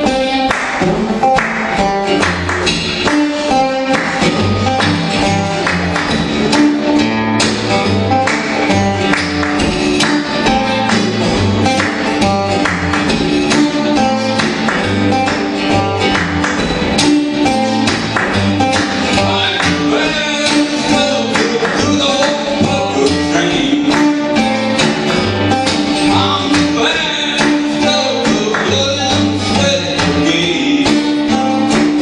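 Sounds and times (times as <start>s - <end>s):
acoustic guitars strumming: 0.0s - 32.0s.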